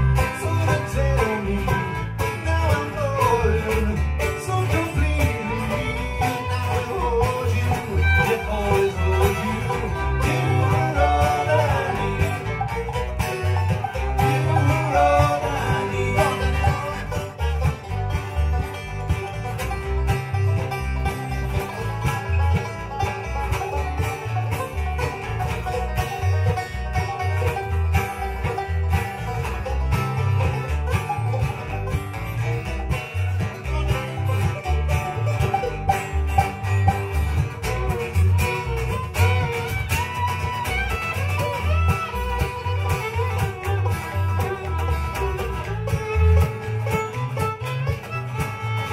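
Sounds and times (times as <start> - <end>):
acoustic guitars: 0.0 - 48.9
banjo: 0.0 - 48.9
fiddle: 0.0 - 48.9.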